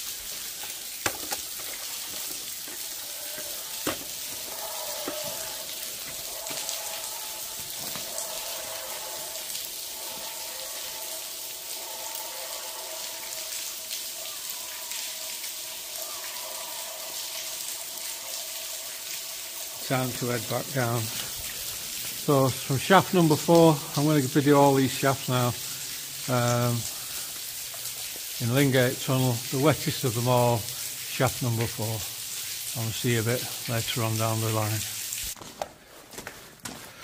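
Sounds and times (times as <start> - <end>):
water falling down shaft: 0.0 - 35.4.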